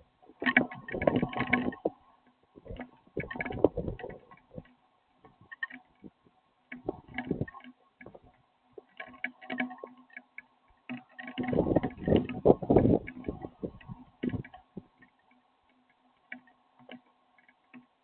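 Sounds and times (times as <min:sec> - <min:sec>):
soft taps and knocks: 0:02.6 - 0:18.0.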